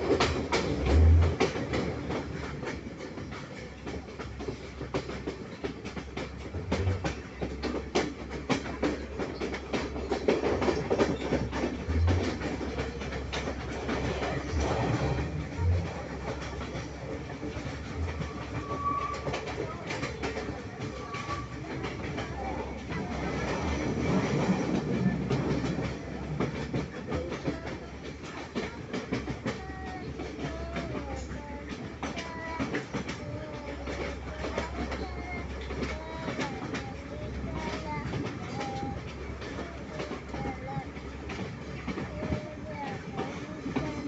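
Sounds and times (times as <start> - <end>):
train rumbling on rails: 0.0 - 44.0
wheels clicking and knocking: 0.0 - 44.0.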